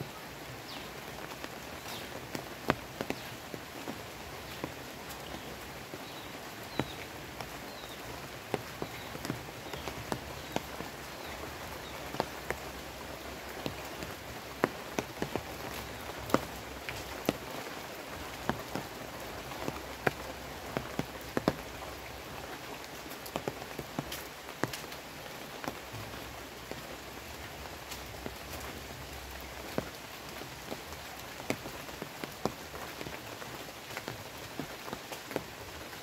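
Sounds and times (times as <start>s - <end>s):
rain falling on leaves: 0.0s - 36.0s
raindrops tapping: 0.0s - 36.0s.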